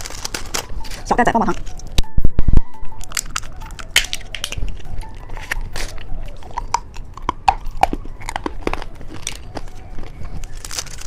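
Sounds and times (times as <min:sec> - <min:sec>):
plastic wrapper crinkling: 0:00.0 - 0:02.0, 0:03.0 - 0:11.0.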